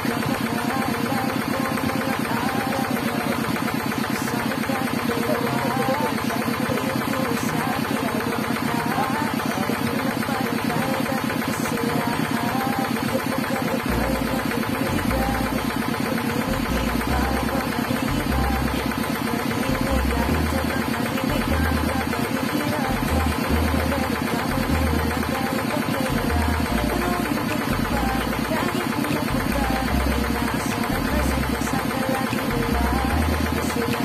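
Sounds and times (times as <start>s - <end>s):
motorized coconut grater rattling: 0.0s - 34.0s.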